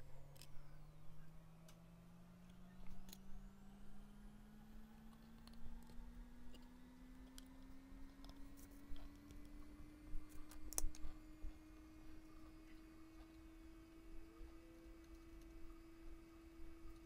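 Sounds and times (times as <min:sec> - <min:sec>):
faint hum rising in pitch: 0:00.0 - 0:17.0.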